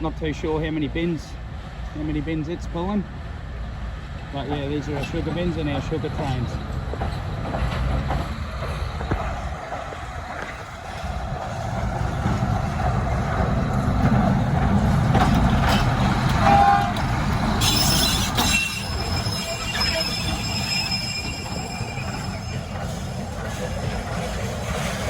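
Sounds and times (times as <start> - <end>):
train wagons rumbling over track: 0.0 - 25.0
wheels squealing on rails: 4.8 - 25.0.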